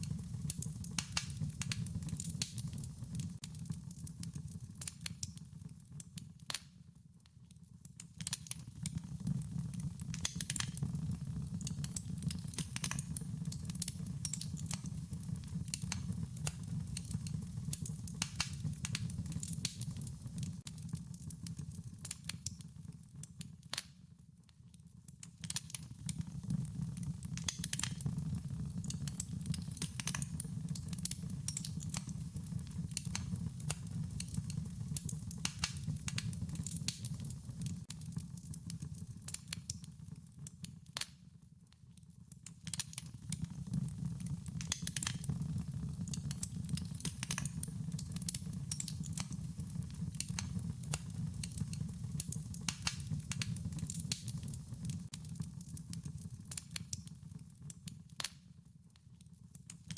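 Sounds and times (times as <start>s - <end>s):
wood fire crackling: 0.0s - 6.8s, 7.8s - 24.0s, 25.0s - 41.2s, 42.4s - 58.4s.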